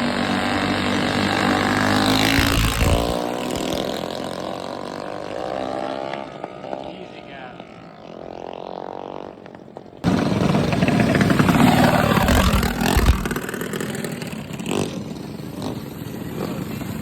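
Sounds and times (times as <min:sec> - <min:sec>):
mini bike engine revving: 0:00.0 - 0:17.0.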